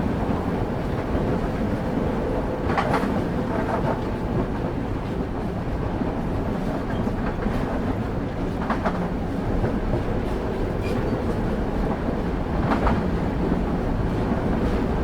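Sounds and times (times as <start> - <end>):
train wheels rumbling on track: 0.0 - 15.0
wheels clacking over rail joints: 0.1 - 13.2.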